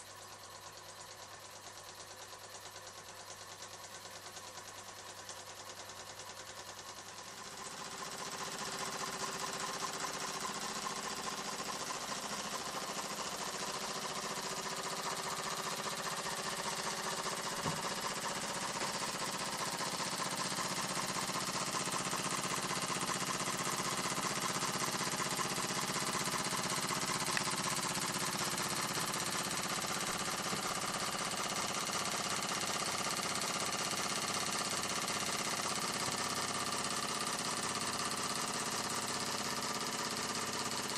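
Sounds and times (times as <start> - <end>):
toy steam engine clatter and chuff: 0.0 - 40.9.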